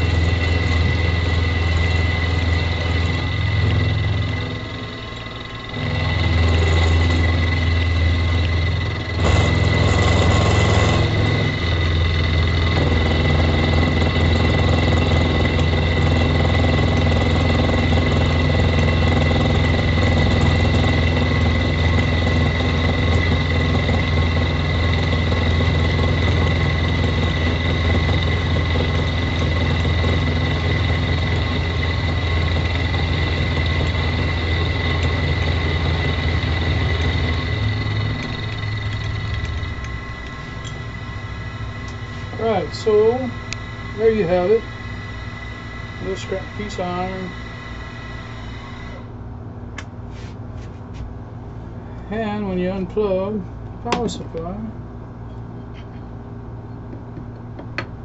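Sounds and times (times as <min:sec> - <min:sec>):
milling machine cutting steel: 0:00.0 - 0:49.1.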